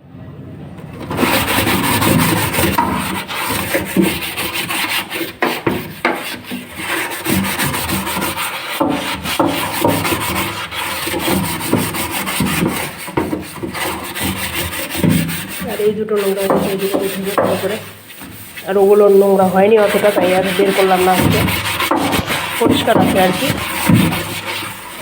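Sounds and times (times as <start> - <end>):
scouring pad scrubbing plastic: 0.8 - 25.0.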